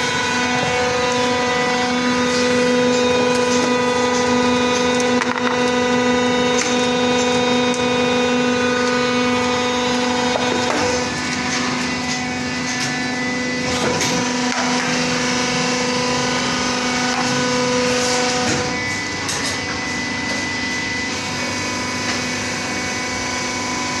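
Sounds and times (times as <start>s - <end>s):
injection moulding machine hum: 0.0s - 24.0s.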